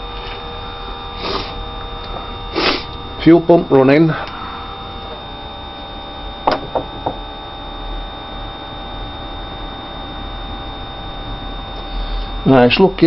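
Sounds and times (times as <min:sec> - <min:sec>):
electric fuel pump humming: 0:00.0 - 0:13.0.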